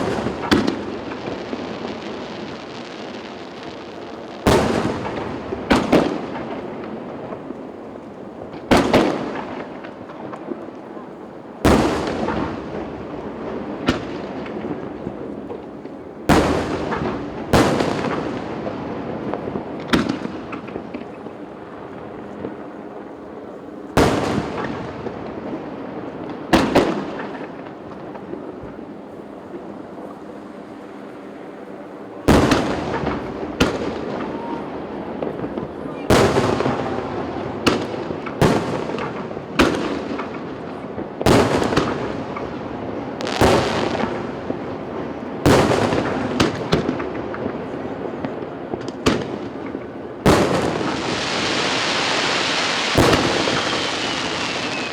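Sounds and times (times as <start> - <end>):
fireworks booming: 0.0 - 30.4, 31.0 - 54.9.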